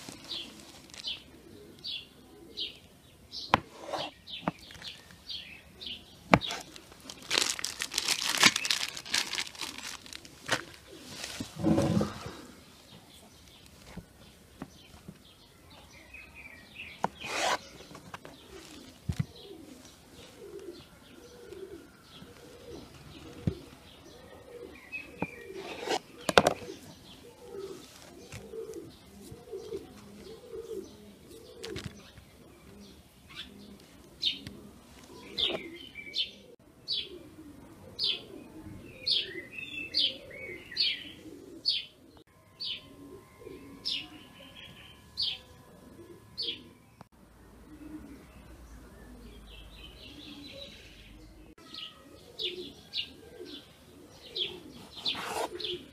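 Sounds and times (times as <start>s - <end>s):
pigeons cooing: 0.0s - 13.4s, 16.8s - 46.9s, 47.5s - 55.9s.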